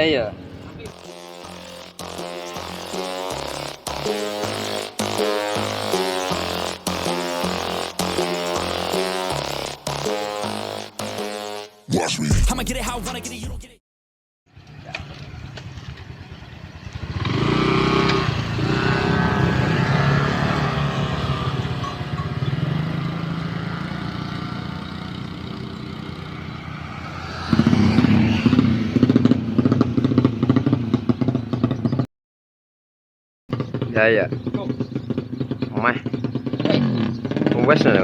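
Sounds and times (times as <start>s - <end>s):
motorcycle engine revving: 0.3s - 11.8s, 14.6s - 32.1s, 33.5s - 38.0s.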